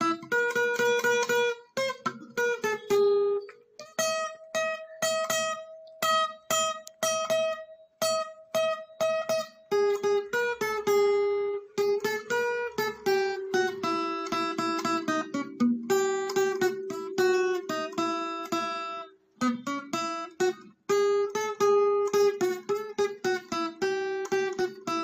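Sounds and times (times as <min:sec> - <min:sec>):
guitar picking a melody: 0:00.0 - 0:25.0.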